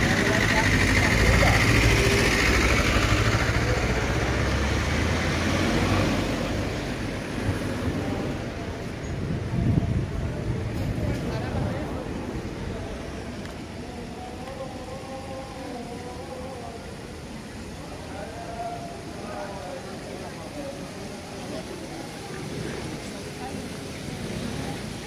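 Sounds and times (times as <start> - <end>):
faint distant voices: 0.0 - 25.0
street noise: 0.0 - 25.0
vehicle engine rumble: 0.0 - 25.0.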